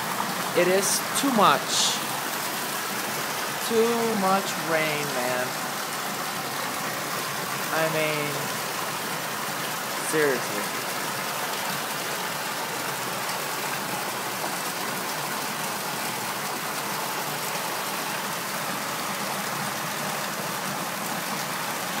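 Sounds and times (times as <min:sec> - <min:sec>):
heavy rain falling: 0:00.0 - 0:22.0
running water: 0:00.0 - 0:22.0.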